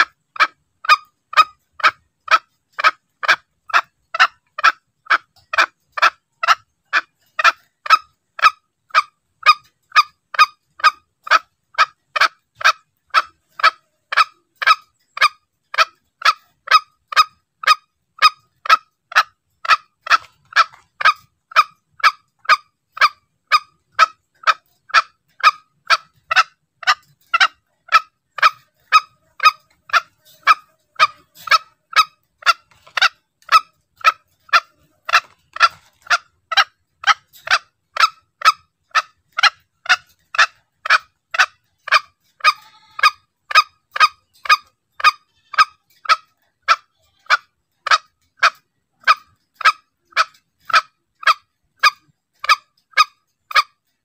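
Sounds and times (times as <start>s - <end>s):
bird call sharp clucking: 0.0s - 54.0s.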